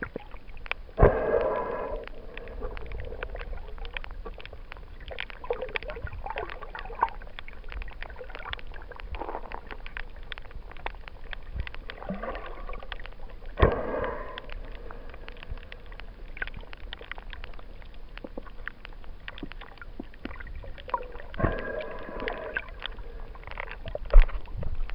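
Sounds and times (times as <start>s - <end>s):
crackle of reef clicks: 0.0s - 24.9s
underwater gurgling bubbling bursts: 0.0s - 24.9s.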